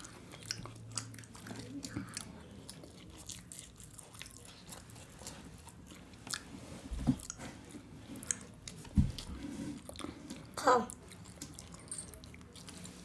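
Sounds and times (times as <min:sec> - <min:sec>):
chewing and biting food: 0:00.0 - 0:13.0.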